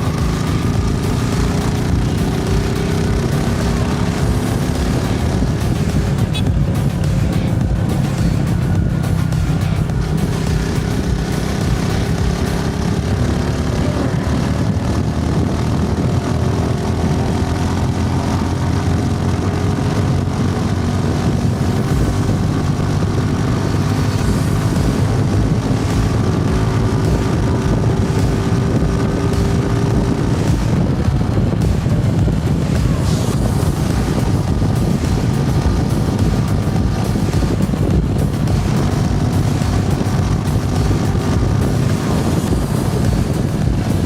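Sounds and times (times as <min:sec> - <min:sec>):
motorcycle engine drone: 0:00.0 - 0:44.0.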